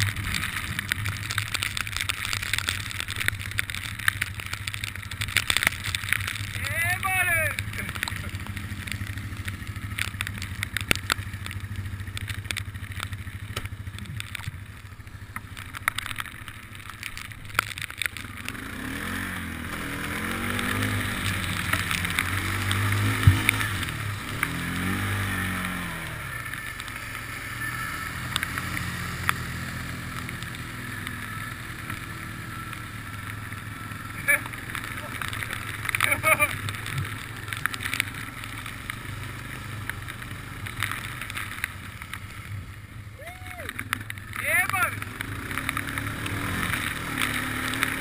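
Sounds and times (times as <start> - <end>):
sharp ticks: 0.0 - 42.5
water splashing: 0.0 - 42.9
atv engine running: 0.0 - 48.0.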